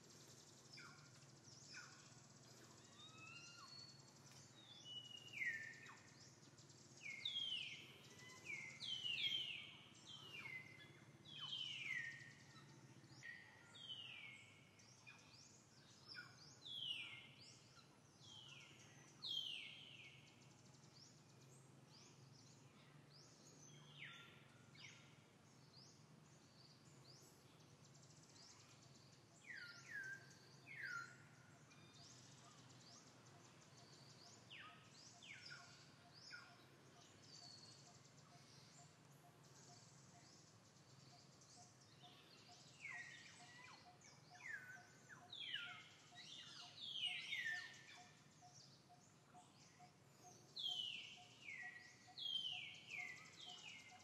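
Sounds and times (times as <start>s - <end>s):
faint forest birdsong: 0.0s - 54.0s.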